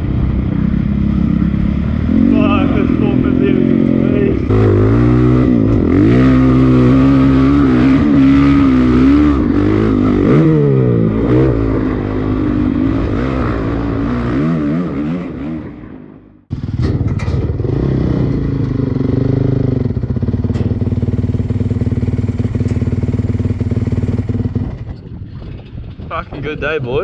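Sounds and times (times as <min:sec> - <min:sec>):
dirt bike engine idling: 0:00.0 - 0:14.1, 0:15.8 - 0:26.1
dirt bike engine revving: 0:00.0 - 0:24.8.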